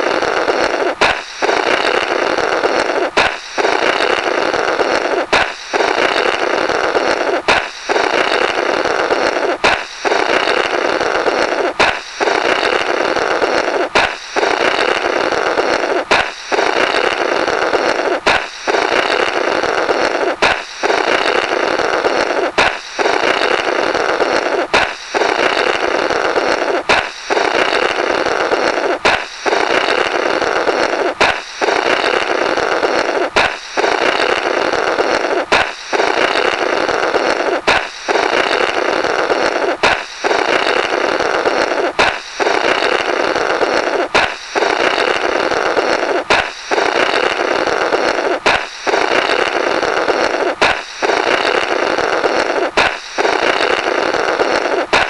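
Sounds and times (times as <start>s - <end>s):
balloon popping: 0.0s - 55.0s
sputtering raspberry of air: 0.0s - 55.0s.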